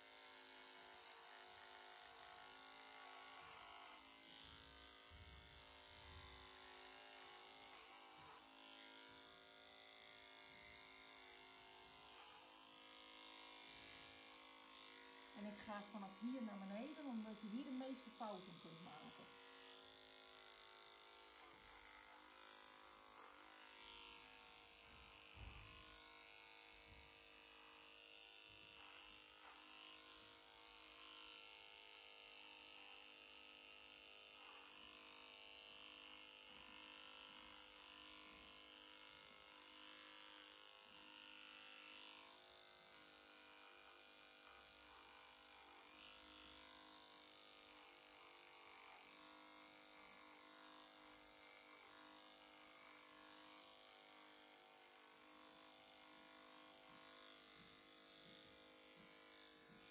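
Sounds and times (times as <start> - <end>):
electric clippers buzzing: 0.0 - 59.9.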